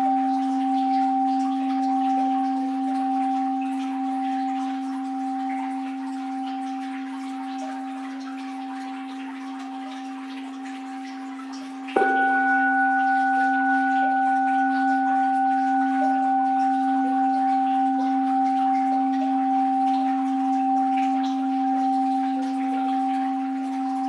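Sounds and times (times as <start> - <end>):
bowl bell ringing: 0.0 - 24.0
flowing water: 0.0 - 24.0.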